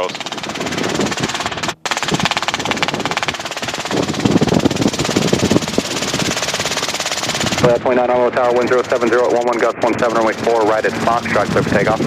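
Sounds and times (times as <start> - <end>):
helicopter engine and rotor pulsing: 0.0 - 12.0.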